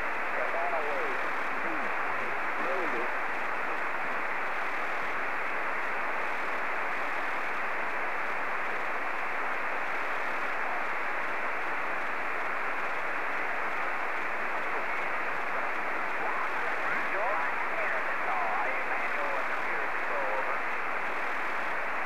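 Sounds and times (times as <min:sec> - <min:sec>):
radio receiver static hiss: 0:00.0 - 0:22.0.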